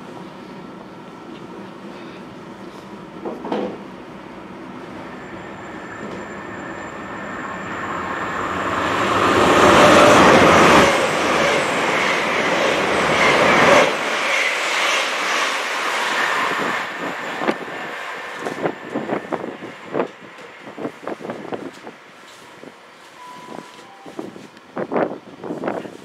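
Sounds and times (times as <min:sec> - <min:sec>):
train approaching: 0:00.0 - 0:25.7
train passing at speed: 0:00.0 - 0:26.0.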